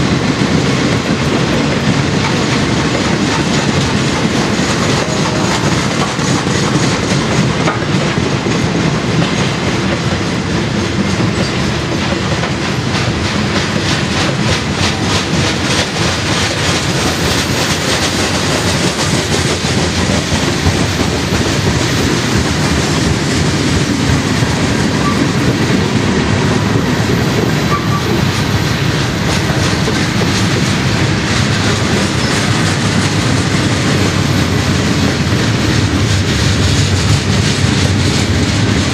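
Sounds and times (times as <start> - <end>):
freight train rumbling past: 0.0 - 38.9
wheels clacking over rail joints: 0.0 - 38.9.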